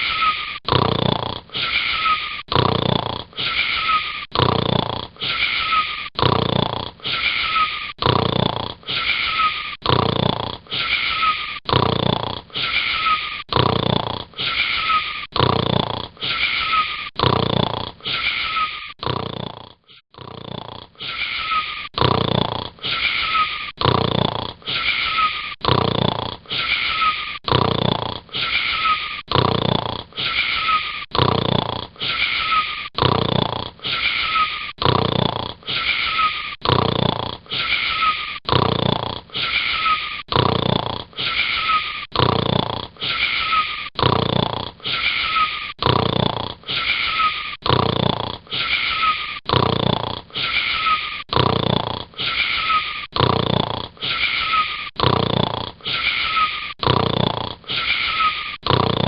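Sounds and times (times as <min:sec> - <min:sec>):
wheezy snoring: 0:00.0 - 0:59.0.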